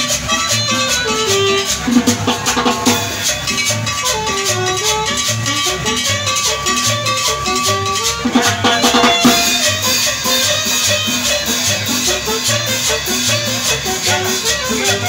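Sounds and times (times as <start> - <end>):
band melody: 0.0 - 15.0
metal scraper and hand percussion: 0.0 - 15.0
upright bass line: 0.0 - 15.0.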